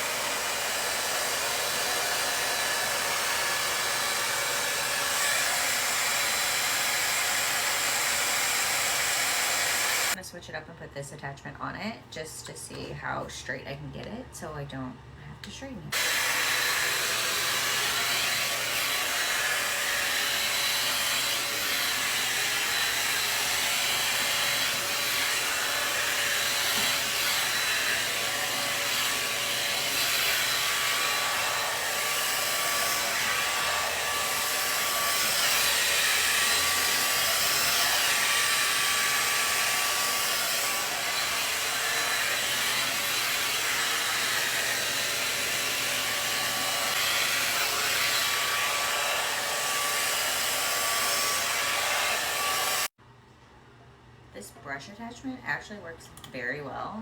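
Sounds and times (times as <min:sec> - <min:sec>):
blow dryer running: 0:00.0 - 0:10.2, 0:15.9 - 0:53.0.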